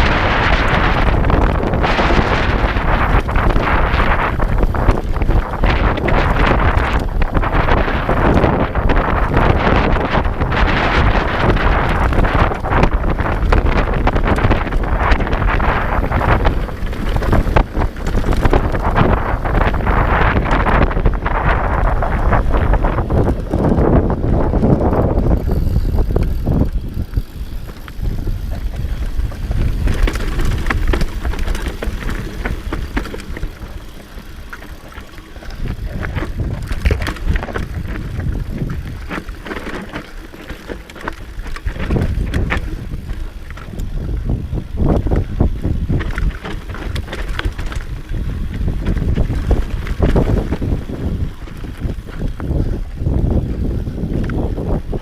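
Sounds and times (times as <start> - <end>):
dirt bike tyres rumbling: 0.0 - 55.0
wind buffeting microphone: 0.0 - 55.0.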